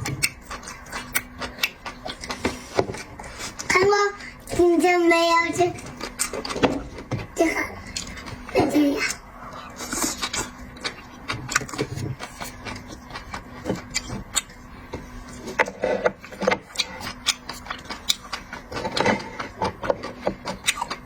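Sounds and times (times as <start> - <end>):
person chewing seafood: 0.0 - 3.7, 5.8 - 21.0.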